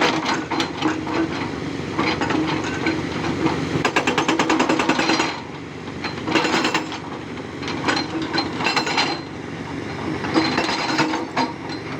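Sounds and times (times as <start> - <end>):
excavator engine running: 0.0 - 11.9.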